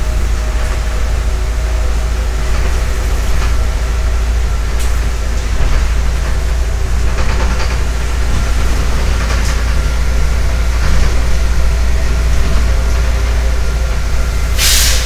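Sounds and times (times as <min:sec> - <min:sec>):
bus engine rumbling: 0:00.0 - 0:15.0.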